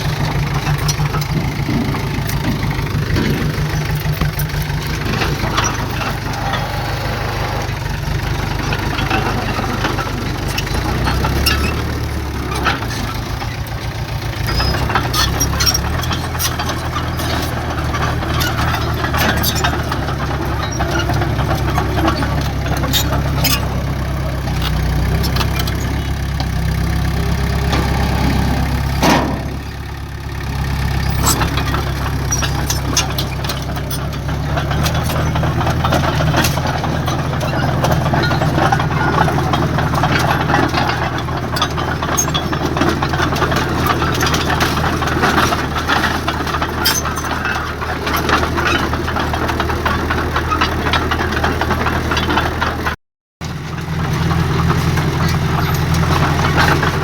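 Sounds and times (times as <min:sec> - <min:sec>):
clanks and knocks: 0:00.0 - 0:57.0
heavy diesel engine running: 0:00.0 - 0:57.0.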